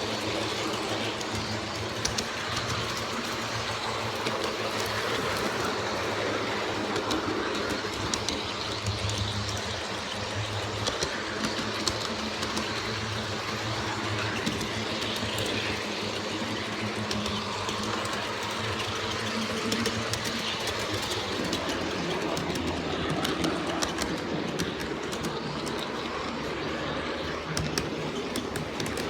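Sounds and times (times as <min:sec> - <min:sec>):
model locomotive motor hum: 0:00.0 - 0:29.0
wheels clicking over rails: 0:00.0 - 0:29.0.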